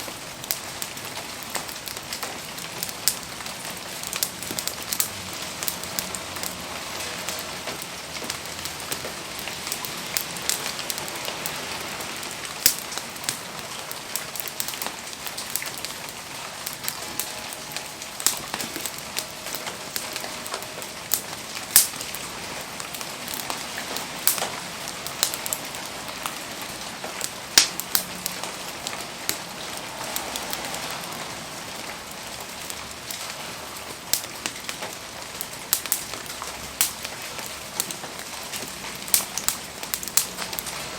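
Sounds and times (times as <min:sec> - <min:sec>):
rain hissing: 0:00.0 - 0:40.9
wood fire crackling: 0:00.0 - 0:40.9.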